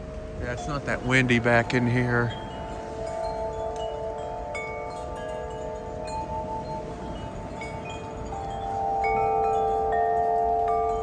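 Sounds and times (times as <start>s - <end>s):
low wind noise: 0.0s - 11.0s
wind chimes ringing: 0.0s - 11.0s.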